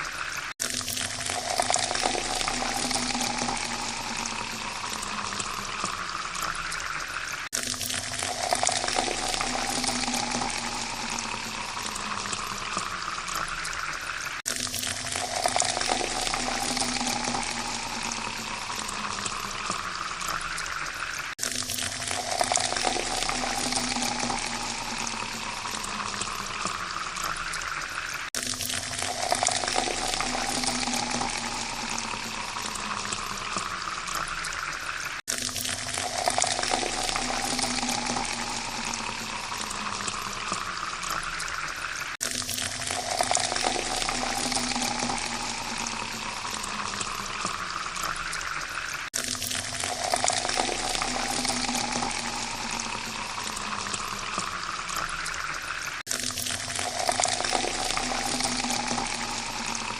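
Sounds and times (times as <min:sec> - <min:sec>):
water pouring into a glass: 0:00.0 - 0:59.9.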